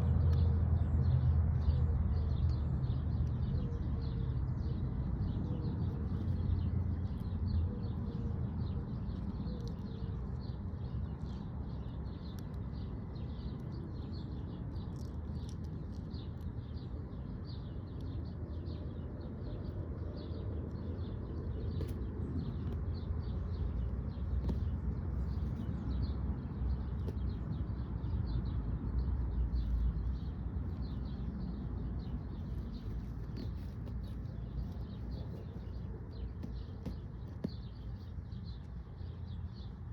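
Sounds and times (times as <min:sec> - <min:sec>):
birds chirping: 0:01.6 - 0:39.9.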